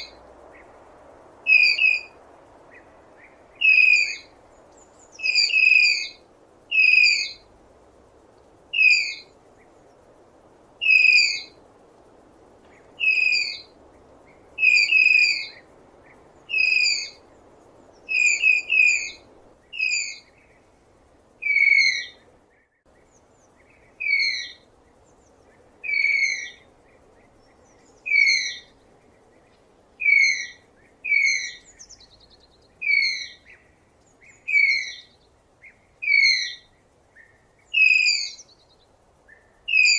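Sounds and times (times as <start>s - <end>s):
steady low hiss: 0.0s - 39.9s.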